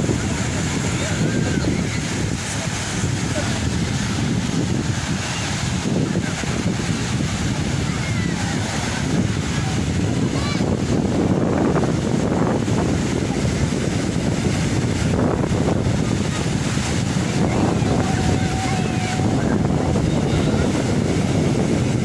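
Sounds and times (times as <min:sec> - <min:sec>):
sea surf washing on shore: 0:00.0 - 0:22.0
wind on microphone: 0:00.0 - 0:22.0.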